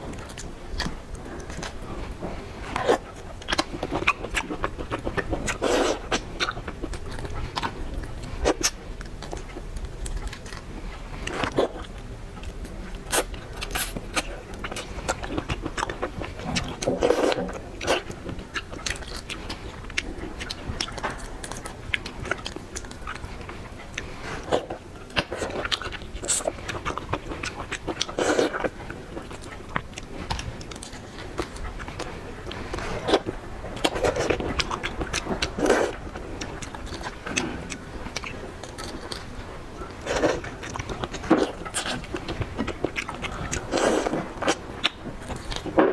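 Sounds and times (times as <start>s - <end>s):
crunching and chewing: 0.0s - 45.9s
eating seafood: 0.0s - 45.9s.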